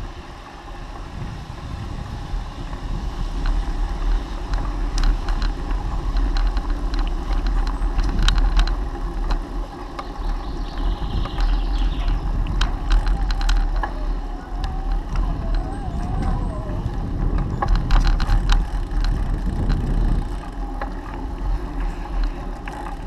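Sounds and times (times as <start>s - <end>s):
bike clicks and rattles: 0.0s - 23.0s
tyre noise on tarmac: 0.0s - 23.0s
wind buffeting microphone: 0.0s - 23.0s.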